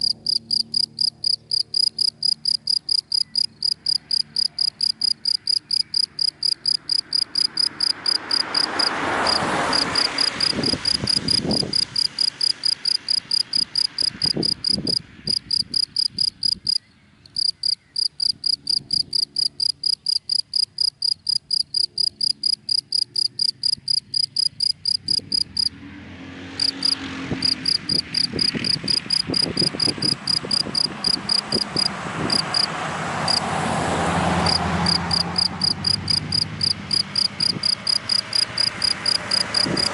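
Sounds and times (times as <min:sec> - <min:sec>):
cricket chirping: 0:00.0 - 0:25.7, 0:26.6 - 0:32.7, 0:34.4 - 0:39.9
passing cars: 0:00.0 - 0:39.9.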